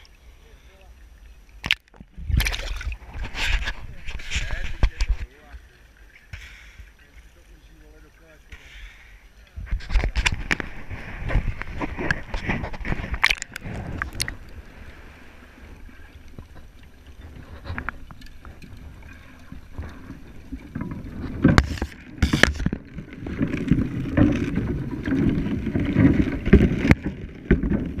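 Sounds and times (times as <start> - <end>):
muffled underwater water sloshing: 0.0 - 28.0.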